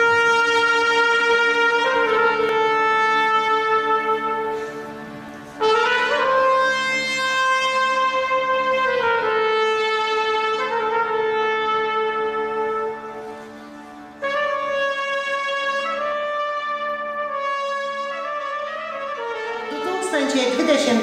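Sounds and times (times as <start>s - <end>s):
brass-like wind instrument: 0.0s - 21.0s.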